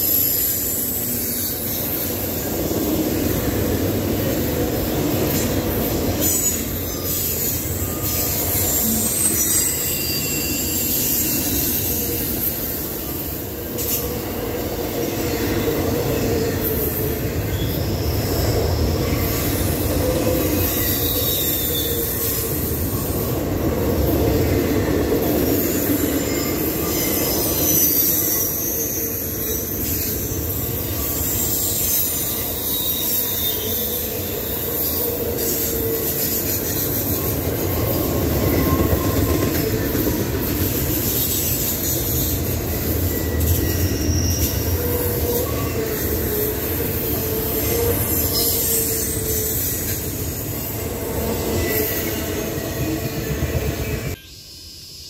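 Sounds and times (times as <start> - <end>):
steel wheels rumbling on rail: 0.0 - 55.0
high-pitched wheel squeals: 3.4 - 55.0.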